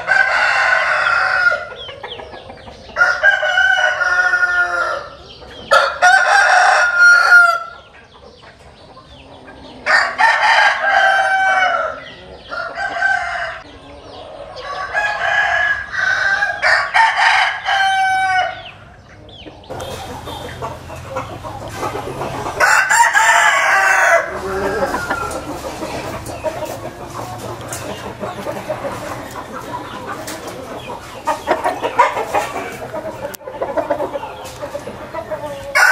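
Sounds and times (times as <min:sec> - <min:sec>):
roosters crowing: 0:00.0 - 0:08.0, 0:09.1 - 0:35.9
hens clucking: 0:00.0 - 0:35.9.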